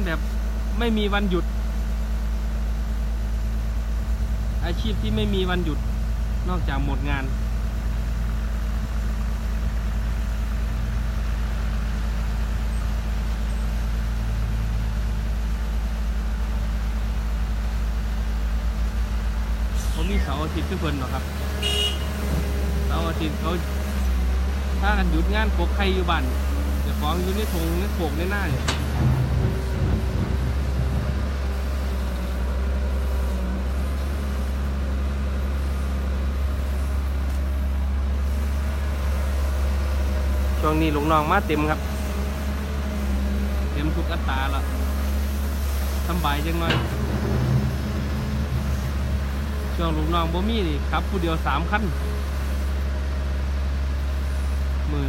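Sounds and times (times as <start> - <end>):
diesel engine droning: 0.0 - 55.0
road and mechanical noise: 0.0 - 55.0.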